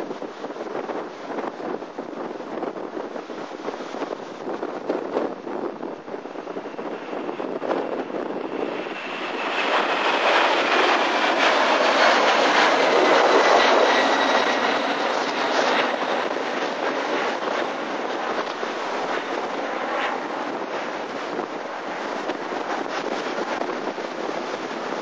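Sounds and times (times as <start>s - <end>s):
jet airliner roar overhead: 0.0s - 25.0s.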